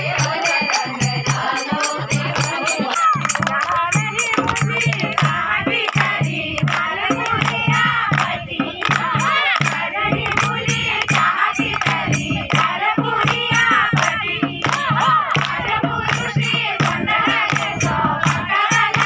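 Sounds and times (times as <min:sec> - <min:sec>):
rhythmic hand-clapping: 0:00.0 - 0:19.0
women singing in chorus: 0:00.0 - 0:19.0.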